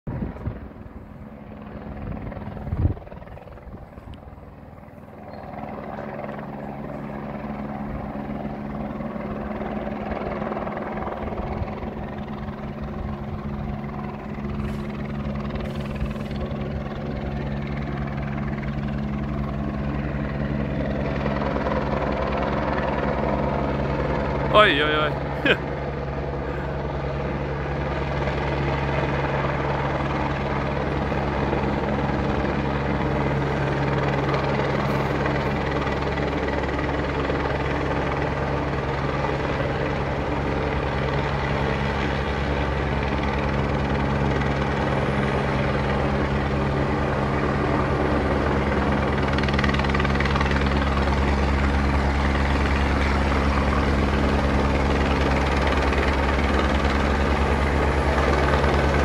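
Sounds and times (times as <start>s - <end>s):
helicopter rotor and engine: 0.1s - 59.0s.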